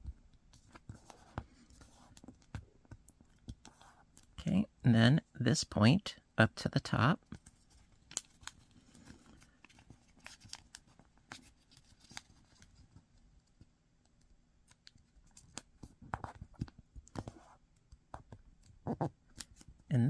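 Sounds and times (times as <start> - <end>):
paper crinkling and tapping: 0.0 - 4.4, 7.2 - 19.9.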